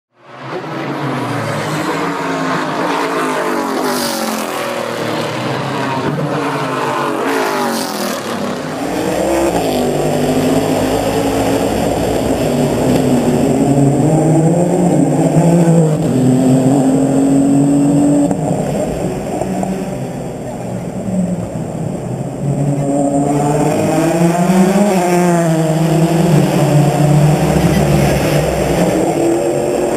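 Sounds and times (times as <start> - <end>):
race car engines at high revs: 0.2 - 29.9.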